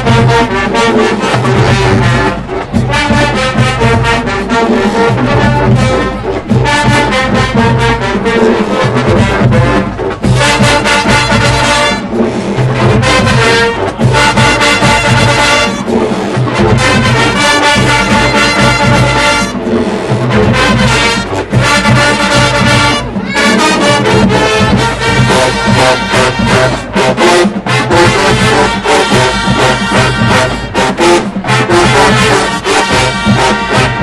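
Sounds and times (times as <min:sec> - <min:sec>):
drum hits: 0:00.0 - 0:34.0
marching band playing brass: 0:00.0 - 0:34.0.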